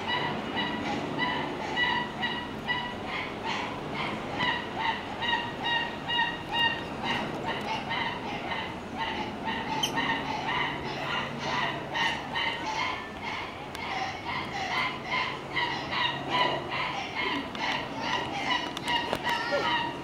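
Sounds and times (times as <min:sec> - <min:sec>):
prairie dogs chirping barks: 0:00.0 - 0:20.0.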